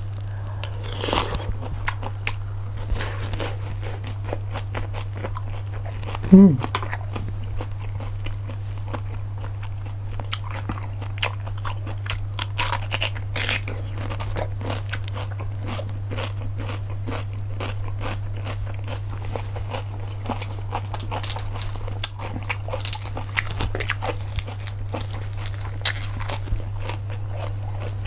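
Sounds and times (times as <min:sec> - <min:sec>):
steady low hum: 0:00.0 - 0:28.0
chewing: 0:00.6 - 0:28.0.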